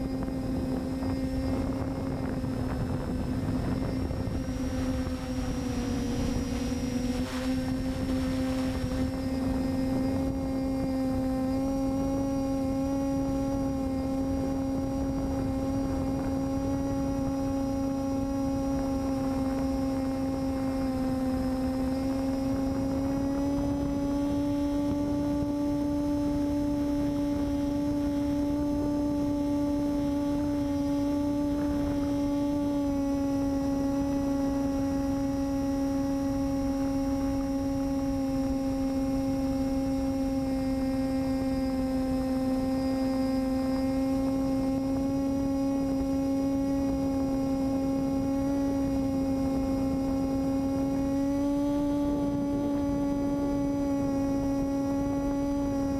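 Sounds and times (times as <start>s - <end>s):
electric motor and propeller drone: 0.0s - 55.9s.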